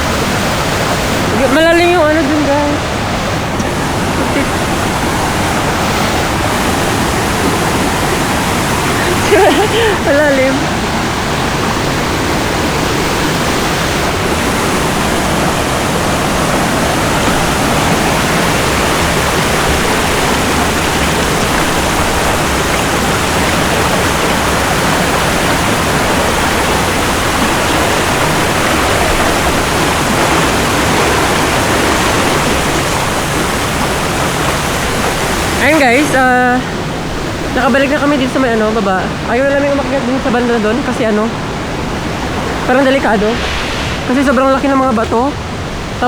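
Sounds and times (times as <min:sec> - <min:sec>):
waterfall roaring: 0:00.0 - 0:46.0.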